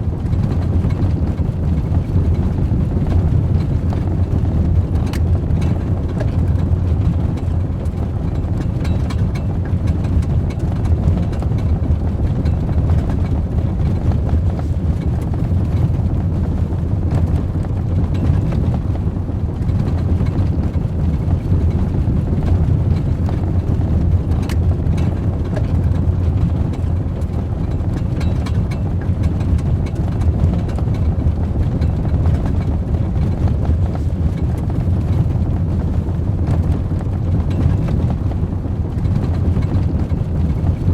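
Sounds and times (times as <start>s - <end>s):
truck engine rumbling: 0.0s - 40.9s.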